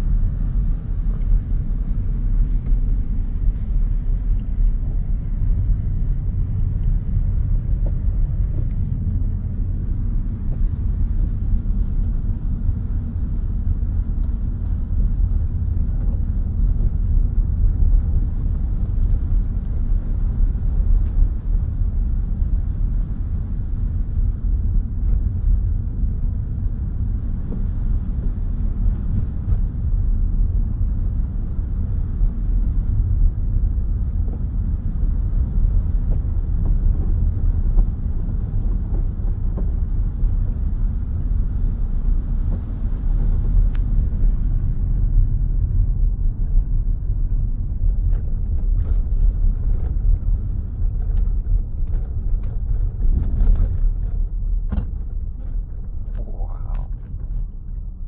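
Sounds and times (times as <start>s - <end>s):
road and tyre rumble in car cabin: 0.0s - 58.0s.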